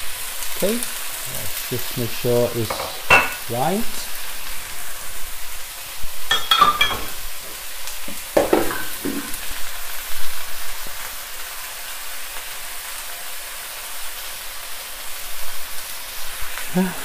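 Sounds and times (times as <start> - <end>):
vegetables sizzling in a wok: 0.0 - 17.0
water boiling off: 0.0 - 17.0.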